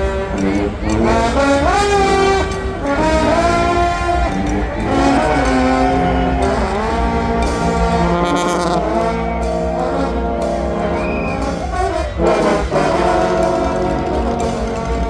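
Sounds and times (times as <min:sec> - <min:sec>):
gliding horn melody: 0:00.0 - 0:15.0
steady low drum beat: 0:00.0 - 0:15.0.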